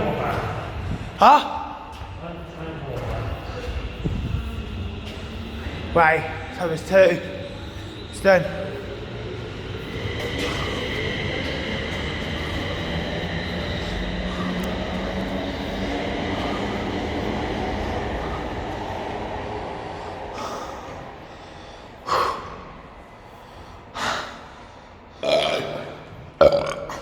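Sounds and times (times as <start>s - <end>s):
train rumbling with high whine: 0.0s - 25.2s.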